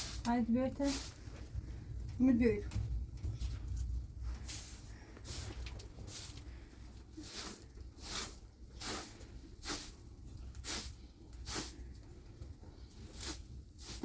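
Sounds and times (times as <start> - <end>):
low background rumble: 0.0 - 13.9.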